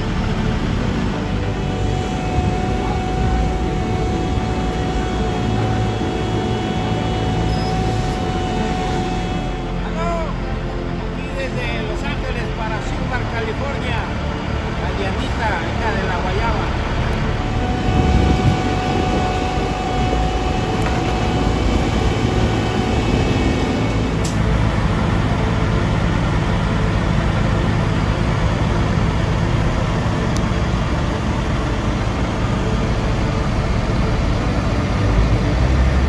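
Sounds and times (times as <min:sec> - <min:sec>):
city street traffic: 0:00.0 - 0:36.0.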